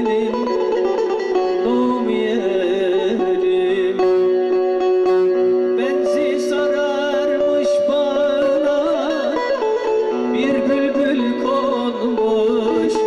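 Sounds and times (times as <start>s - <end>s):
man singing folk song: 0.0s - 13.0s
plucked long-necked lute: 0.0s - 13.0s.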